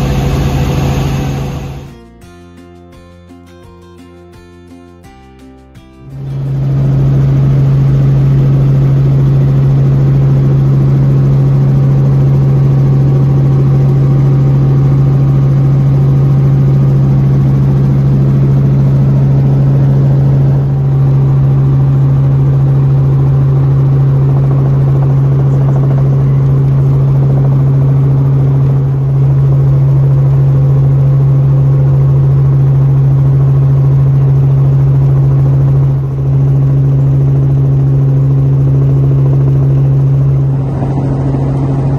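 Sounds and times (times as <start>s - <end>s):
helicopter engine and rotors droning: 0.0s - 3.0s, 6.0s - 41.9s.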